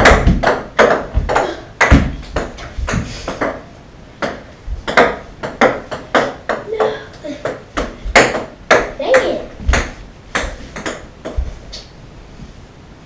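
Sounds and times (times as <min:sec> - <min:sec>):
ping-pong ball bouncing on wood: 0:00.0 - 0:03.6, 0:04.2 - 0:11.5.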